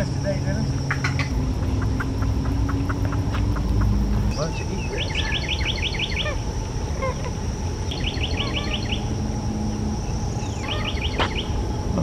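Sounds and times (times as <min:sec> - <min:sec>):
high insect drone: 0:00.0 - 0:12.0
songbird singing: 0:00.0 - 0:12.0.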